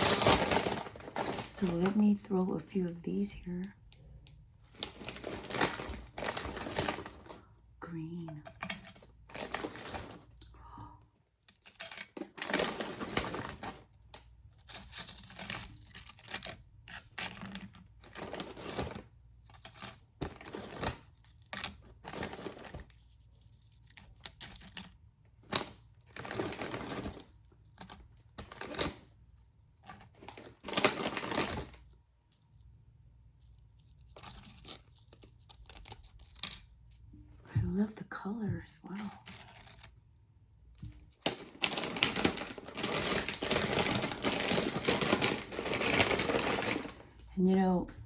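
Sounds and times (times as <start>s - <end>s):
plastic snack bag crinkling: 0.0s - 3.9s, 4.6s - 10.8s, 11.4s - 37.1s, 40.8s - 47.4s.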